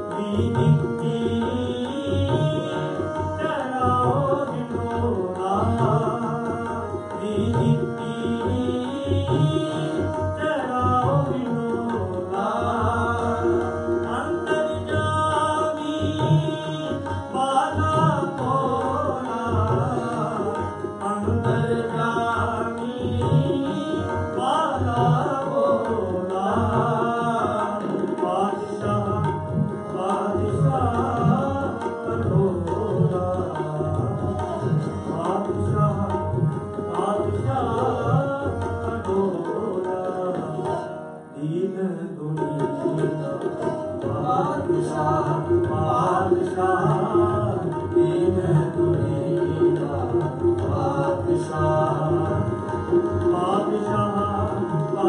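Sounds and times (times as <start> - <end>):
bowed string instrument: 0.0 - 55.0
harmonium: 0.0 - 55.0
tabla playing steady rhythm: 0.0 - 55.0.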